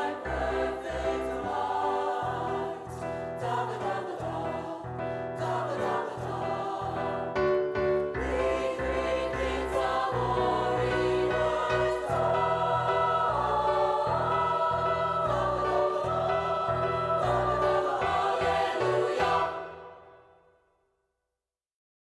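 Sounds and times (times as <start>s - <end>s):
children's choir singing: 0.0s - 20.3s.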